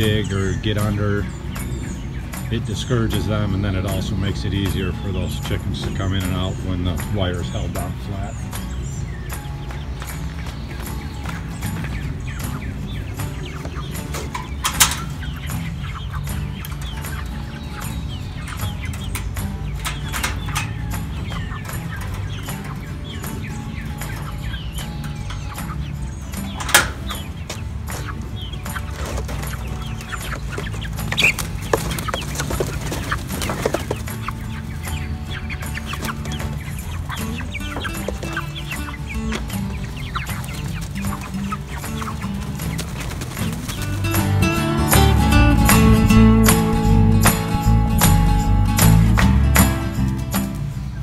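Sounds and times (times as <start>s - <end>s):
chickens chirping and clucking: 0.0s - 51.0s.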